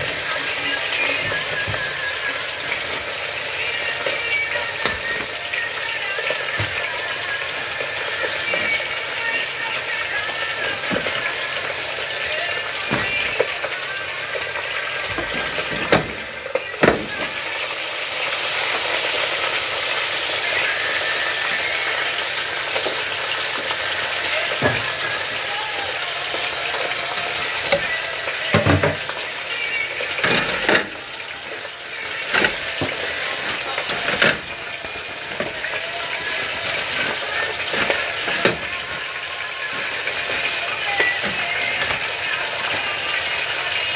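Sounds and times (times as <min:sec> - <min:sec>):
food sizzling in a pan: 0:00.0 - 0:43.9.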